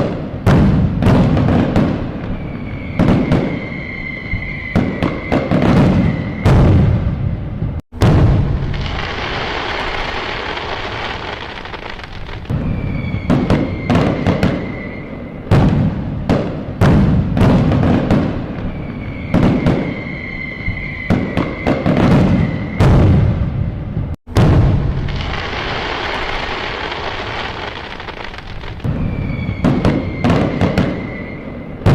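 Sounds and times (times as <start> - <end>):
fireworks crackling: 0.0 - 7.1, 8.0 - 23.4, 24.3 - 31.9
fireworks banging: 0.0 - 31.9
whistling fireworks: 0.0 - 31.9.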